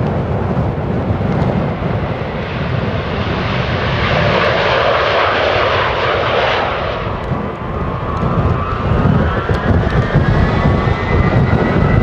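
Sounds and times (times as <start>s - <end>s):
jet engines at takeoff power: 0.0s - 12.0s.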